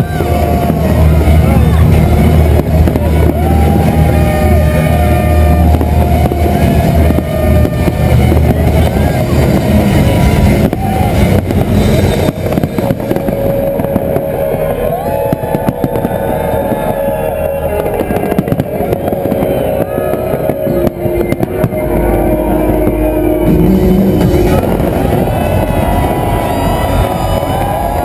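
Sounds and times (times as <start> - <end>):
crowd voices: 0.0 - 28.0
fireworks booming: 0.0 - 28.0
fireworks cracks and bangs: 0.0 - 28.0.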